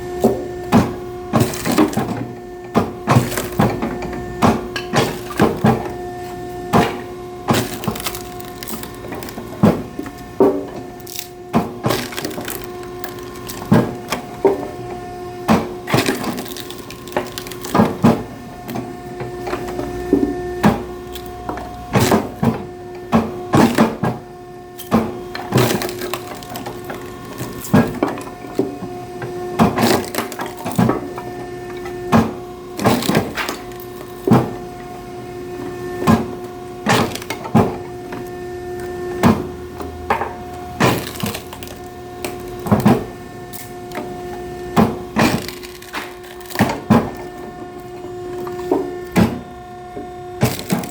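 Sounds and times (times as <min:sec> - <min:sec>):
machine hum: 0:00.0 - 0:50.9
wood splitting with cracks: 0:00.2 - 0:06.0, 0:06.7 - 0:24.2, 0:24.8 - 0:29.0, 0:29.6 - 0:34.6, 0:36.0 - 0:50.9.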